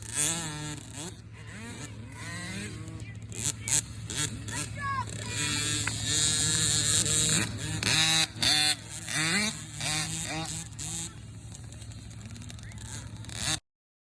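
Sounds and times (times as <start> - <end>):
dirt bike engines revving: 0.0 - 13.6.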